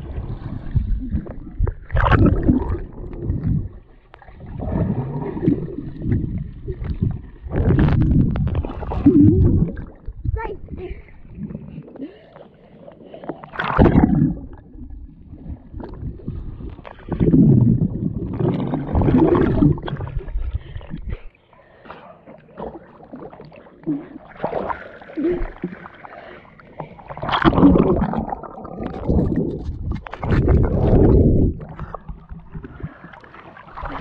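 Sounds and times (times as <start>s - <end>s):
muffled underwater gurgling: 0.0s - 21.3s, 22.4s - 34.0s
water sloshing and splashing: 0.0s - 34.0s.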